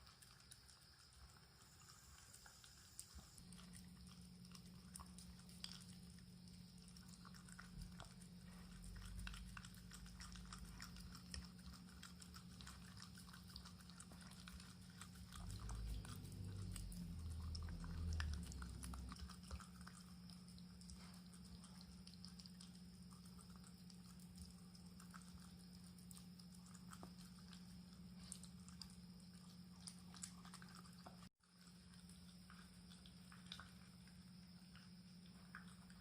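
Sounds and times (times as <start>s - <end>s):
dog chewing: 0.0s - 36.0s.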